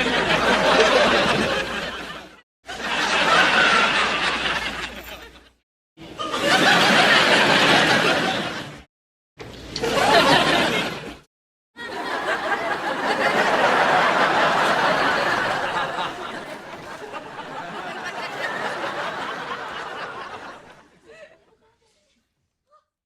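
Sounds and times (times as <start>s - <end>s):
audience laughter: 0.0s - 8.9s, 9.8s - 11.2s, 11.8s - 21.6s.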